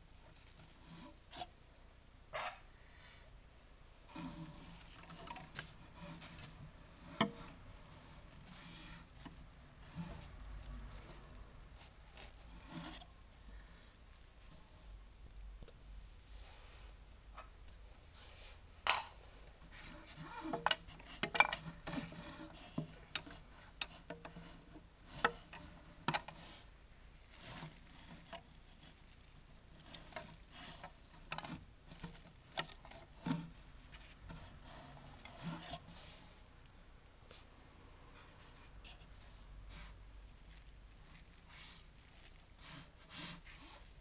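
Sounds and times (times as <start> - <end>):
rustling: 0.0 - 44.0.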